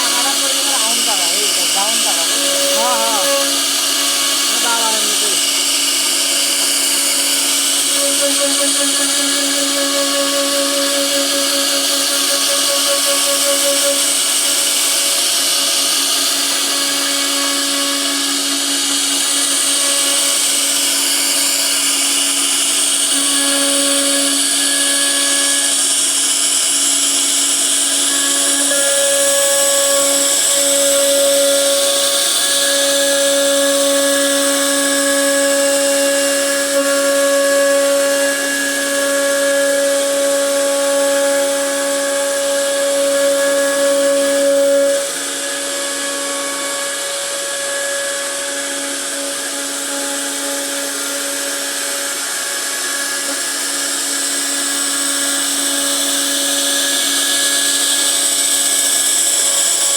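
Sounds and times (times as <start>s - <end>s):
router spindle whining: 0.0s - 59.9s
wood cutting noise: 0.0s - 59.9s.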